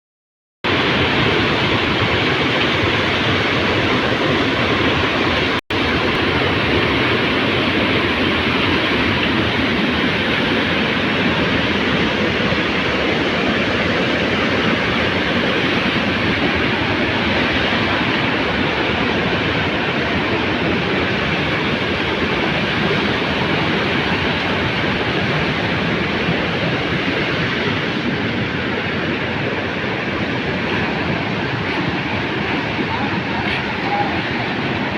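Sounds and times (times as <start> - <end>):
rush of fast river water: 0.7 - 34.9.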